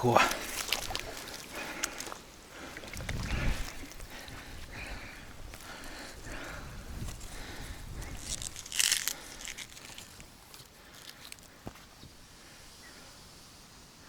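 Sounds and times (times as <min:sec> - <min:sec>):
vegetation rustling and crunching: 0:00.1 - 0:12.0.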